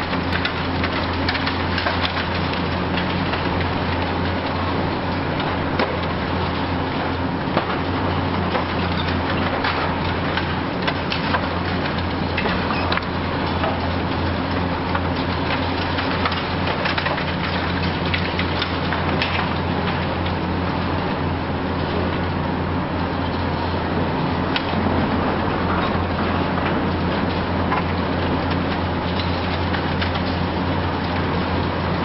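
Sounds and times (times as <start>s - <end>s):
debris falling: 0.0s - 20.8s, 24.4s - 32.0s
building material cracking: 0.0s - 22.4s, 23.0s - 32.0s.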